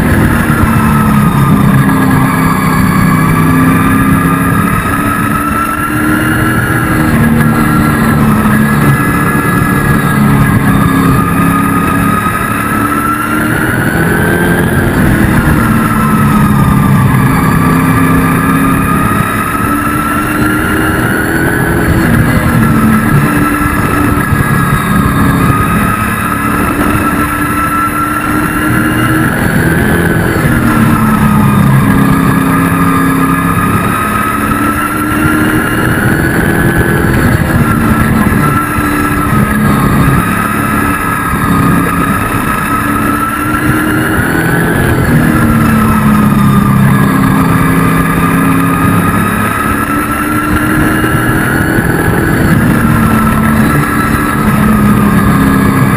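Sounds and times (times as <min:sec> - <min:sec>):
truck engine racing: 0:00.0 - 0:55.9.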